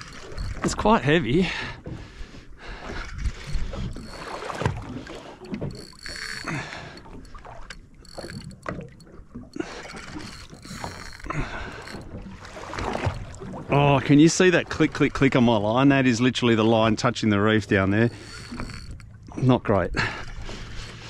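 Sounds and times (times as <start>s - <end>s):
water lapping against boat hull: 0.0s - 21.0s.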